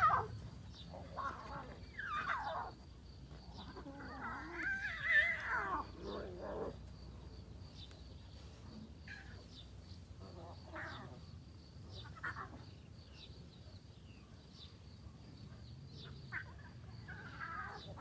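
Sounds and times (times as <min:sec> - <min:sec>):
lioness and cubs calling: 0:00.0 - 0:18.0.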